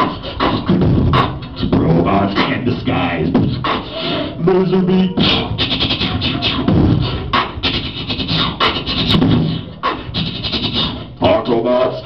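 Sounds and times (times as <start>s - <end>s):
beatboxed robot sound effects: 0.0s - 12.0s.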